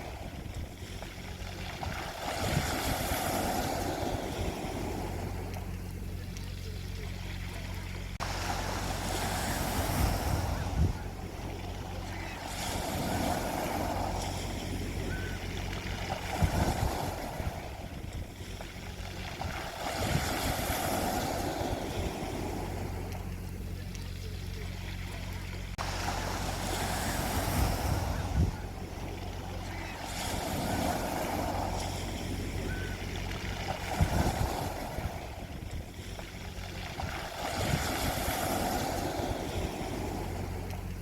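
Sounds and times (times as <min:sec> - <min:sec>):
sea waves breaking on a beach: 0:00.0 - 0:41.0
steady low hum: 0:00.0 - 0:41.0.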